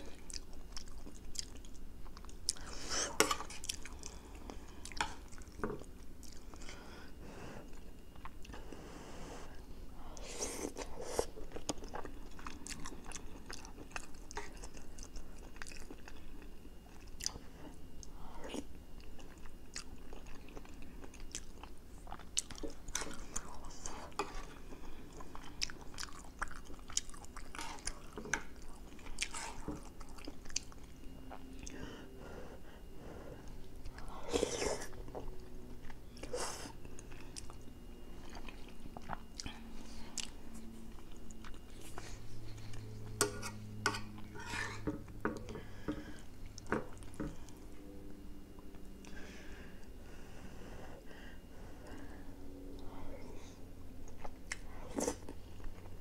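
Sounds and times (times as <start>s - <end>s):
person chewing food: 0.0s - 6.9s, 7.6s - 8.7s, 9.4s - 31.8s, 33.4s - 47.9s, 51.9s - 56.0s.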